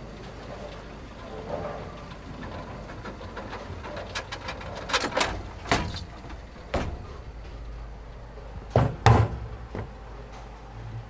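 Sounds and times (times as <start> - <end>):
bowling balls clacking: 0.0 - 10.1
bowling balls rolling: 0.0 - 10.3.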